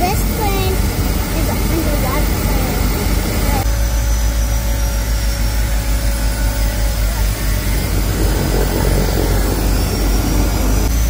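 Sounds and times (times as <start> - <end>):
propeller engine drone: 0.0 - 11.0.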